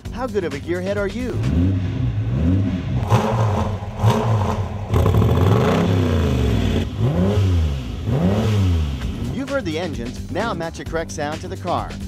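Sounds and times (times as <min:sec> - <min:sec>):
sports car engines revving: 0:00.4 - 0:10.6.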